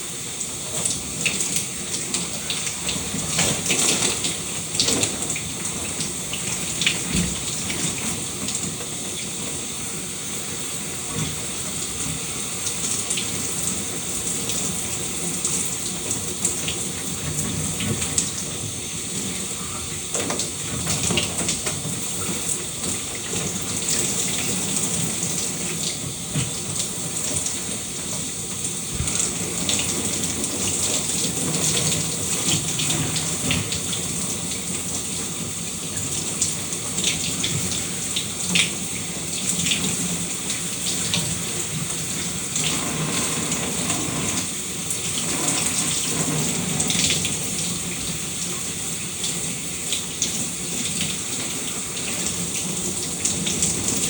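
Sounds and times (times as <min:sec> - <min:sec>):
shower water spraying: 0:00.0 - 0:54.0.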